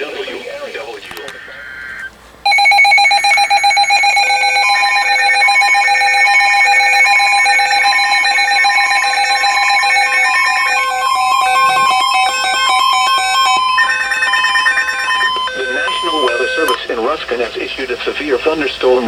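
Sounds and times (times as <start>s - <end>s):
stepped beeping tones: 1.1s - 17.6s
electronic two-tone alert signal: 1.4s - 16.8s.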